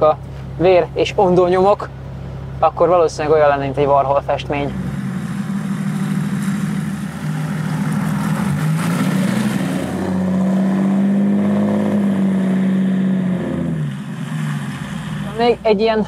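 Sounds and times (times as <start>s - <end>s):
diesel engine car driving off: 0.0s - 16.0s.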